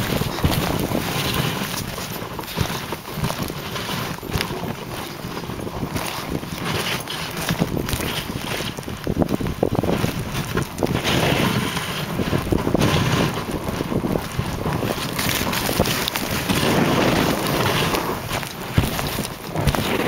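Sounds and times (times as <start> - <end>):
sled knocking and rattling: 0.0 - 20.0
sled runners scraping on snow: 0.0 - 20.0
wind buffeting microphone: 0.0 - 20.0.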